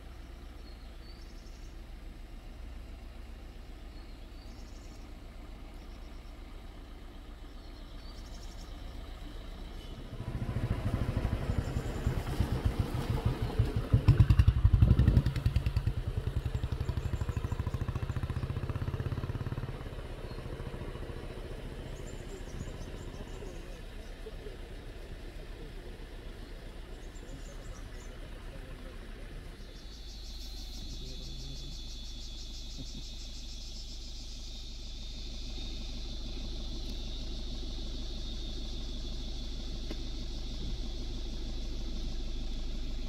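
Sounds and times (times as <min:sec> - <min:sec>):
low hum: 0:00.0 - 0:43.0
vehicle engine running: 0:00.0 - 0:43.0.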